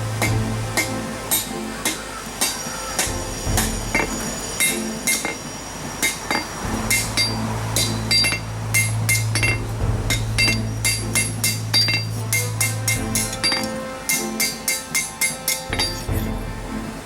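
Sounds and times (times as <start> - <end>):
low hum: 0.0 - 2.3, 3.1 - 14.6
hammer striking steel on anvil: 0.0 - 16.4.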